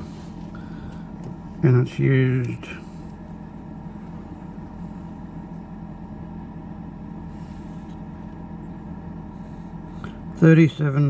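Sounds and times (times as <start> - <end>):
fridge compressor humming: 0.0 - 11.0.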